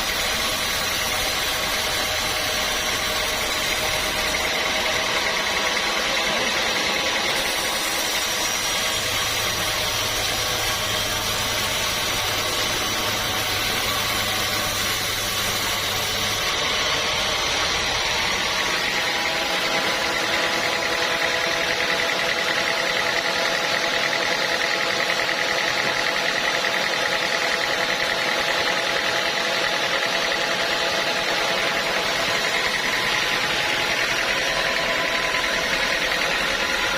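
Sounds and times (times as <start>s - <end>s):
sawmill machinery humming: 0.0s - 36.9s.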